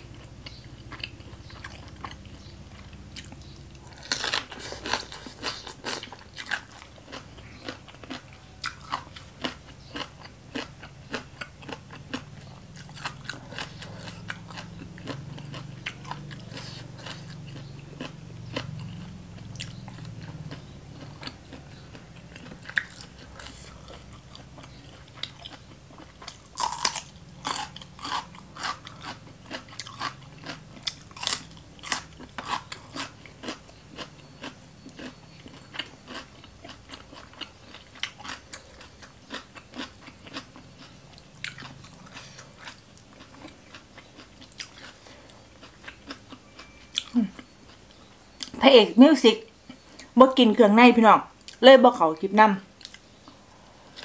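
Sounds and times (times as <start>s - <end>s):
person chewing crunchy food: 0.0s - 48.6s, 52.8s - 54.0s.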